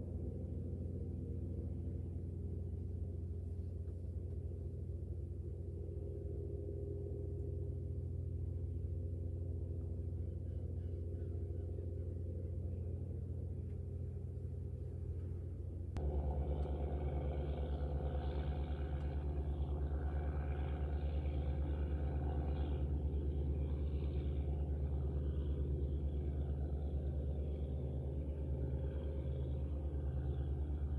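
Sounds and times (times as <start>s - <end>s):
boat diesel engine throbbing: 0.0s - 30.9s.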